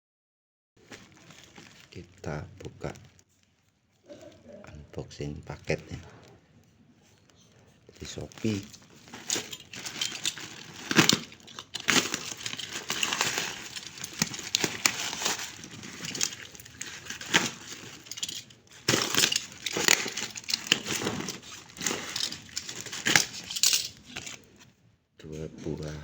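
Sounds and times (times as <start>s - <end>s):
plastic packaging crinkling: 0.8s - 4.5s, 7.2s - 24.7s.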